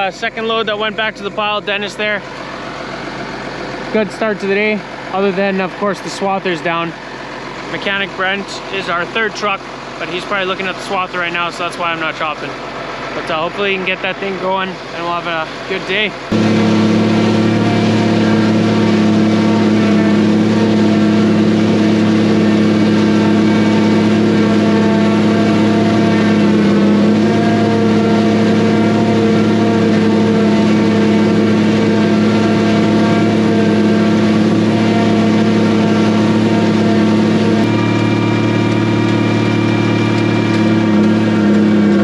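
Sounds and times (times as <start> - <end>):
tractor engine under load: 0.0 - 42.0.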